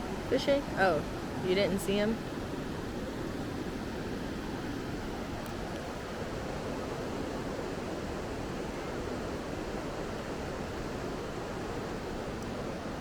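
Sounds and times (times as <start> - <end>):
river water rushing over dam: 0.0 - 13.0.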